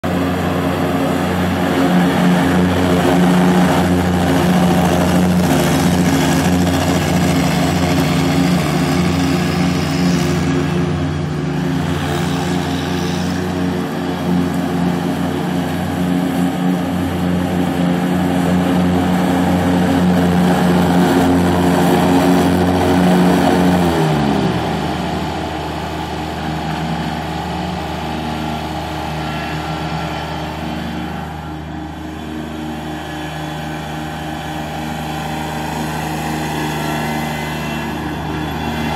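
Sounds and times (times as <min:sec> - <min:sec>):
mower diesel engine running: 0:00.0 - 0:38.9.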